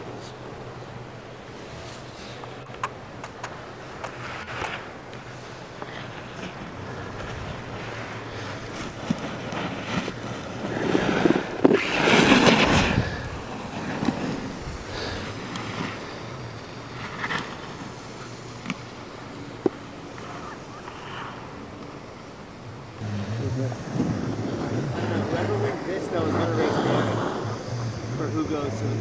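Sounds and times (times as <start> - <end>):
snowboard carving on snow: 0.0 - 2.6, 3.6 - 29.0.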